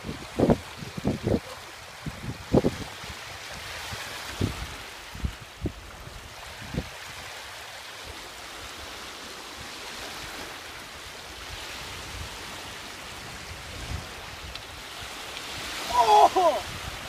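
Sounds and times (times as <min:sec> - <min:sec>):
lake water lapping at shore: 0:00.0 - 0:17.0.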